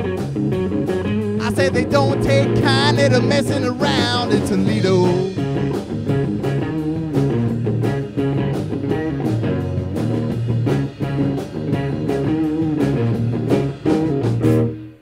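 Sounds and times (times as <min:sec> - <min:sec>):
live rock band instrumental: 0:00.0 - 0:15.0.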